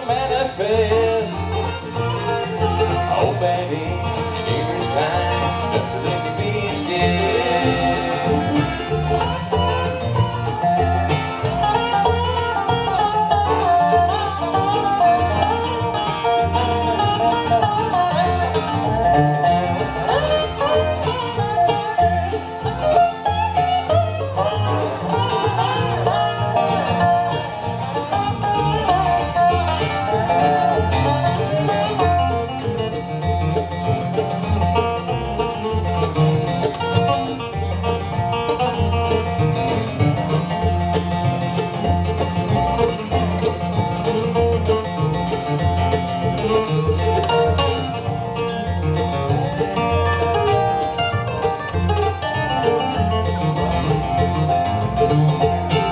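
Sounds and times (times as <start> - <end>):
acoustic guitars: 0.0 - 55.9
dobro: 0.0 - 55.9
fiddle: 0.0 - 55.9
mandolin: 0.0 - 55.9
upright bass: 0.0 - 55.9.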